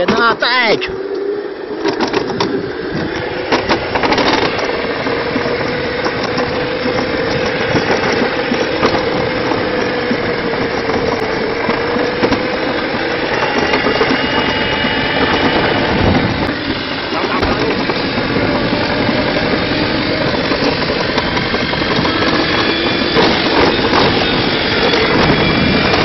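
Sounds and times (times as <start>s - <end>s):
toboggan rolling rumble on metal track: 0.0s - 26.0s.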